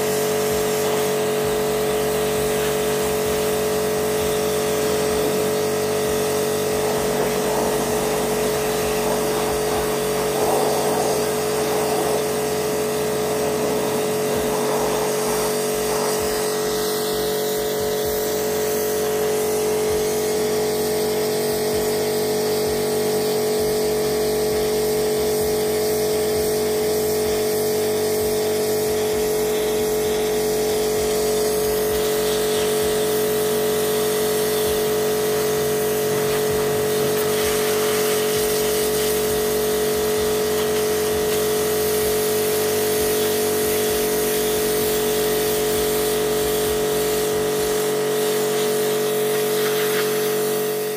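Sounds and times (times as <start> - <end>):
pressure washer motor hum: 0.0 - 50.9
water jet spraying on hull: 0.0 - 50.9.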